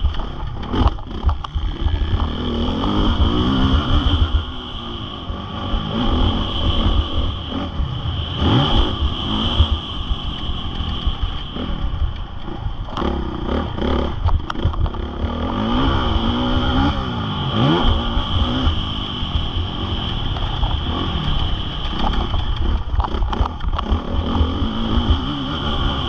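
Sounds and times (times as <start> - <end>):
motorcycle engine revving: 0.0 - 26.0
wind rumble on microphone: 0.0 - 26.0.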